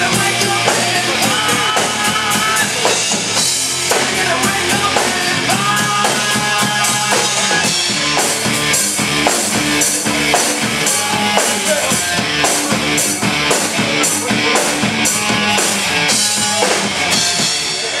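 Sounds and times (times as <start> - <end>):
drum kit beat: 0.0 - 18.0
guitar: 0.0 - 18.0.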